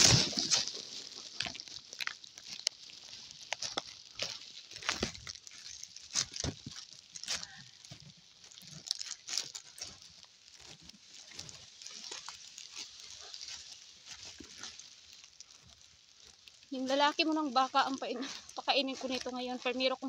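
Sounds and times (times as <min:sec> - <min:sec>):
sharp snaps and scrapes: 0:00.0 - 0:19.9
fodder stalks rustling and crackling: 0:00.0 - 0:20.0.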